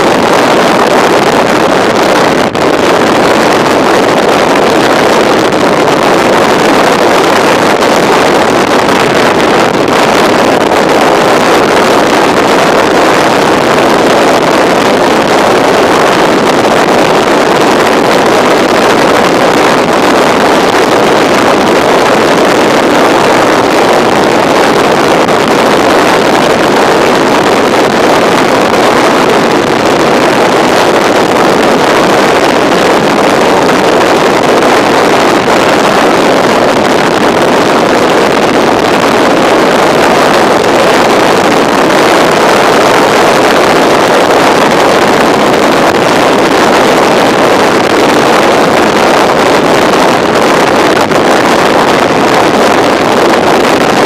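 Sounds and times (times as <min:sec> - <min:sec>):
wind roar on microphone: 0:00.0 - 0:54.0.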